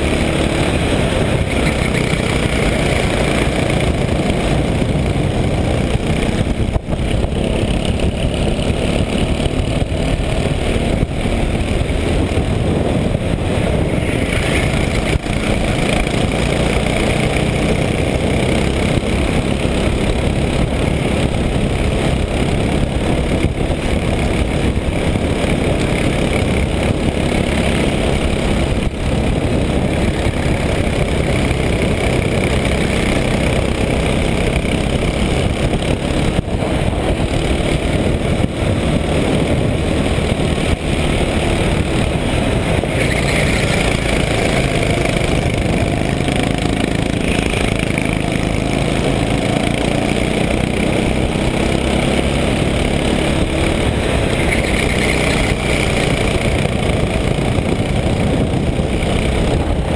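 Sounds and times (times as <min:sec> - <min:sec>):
racing kart engine running hard: 0:00.0 - 0:59.9.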